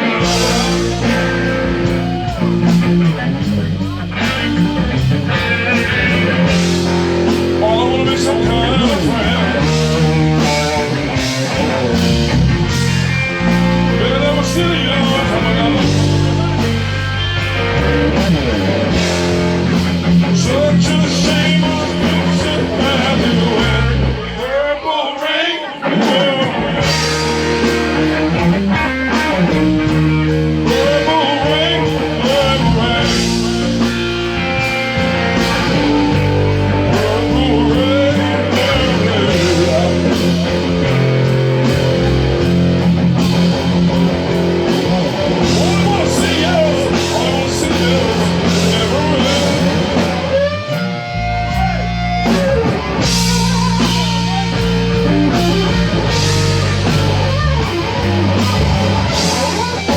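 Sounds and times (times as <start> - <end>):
bass guitar: 0.0 - 59.9
drums: 0.0 - 59.9
electric guitar lead: 0.0 - 59.9.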